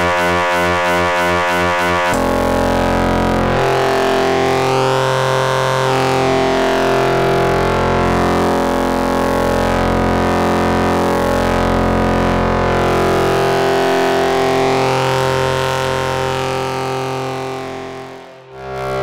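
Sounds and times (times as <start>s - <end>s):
synthesizer drone: 0.0s - 19.0s.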